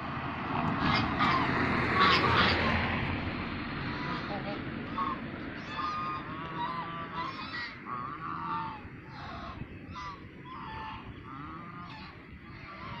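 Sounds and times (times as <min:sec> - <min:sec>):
geese honking: 0:00.8 - 0:03.0, 0:03.8 - 0:13.0.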